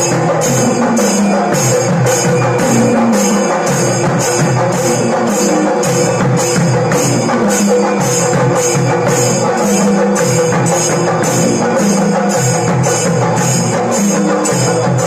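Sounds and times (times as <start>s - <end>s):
drums beaten with sticks: 0.0s - 15.0s
hand cymbals clashing: 0.0s - 15.0s.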